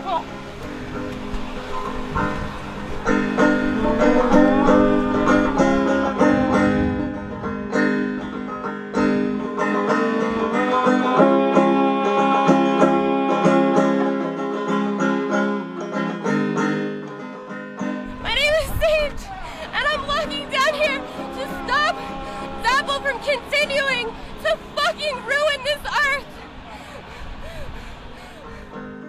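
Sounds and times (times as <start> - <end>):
banjo music: 0.0 - 26.5.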